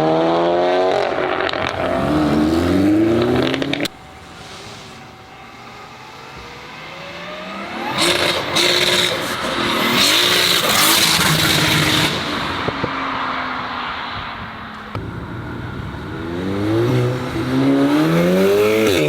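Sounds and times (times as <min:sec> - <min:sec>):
car accelerating past: 0:00.0 - 0:19.0.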